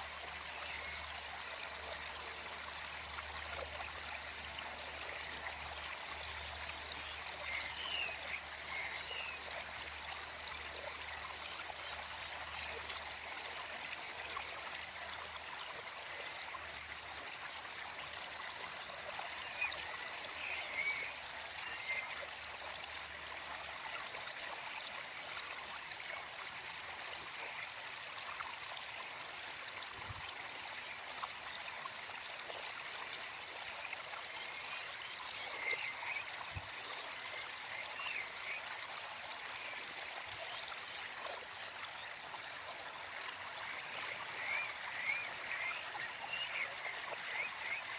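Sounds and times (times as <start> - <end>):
stream flowing: 0.0 - 47.9.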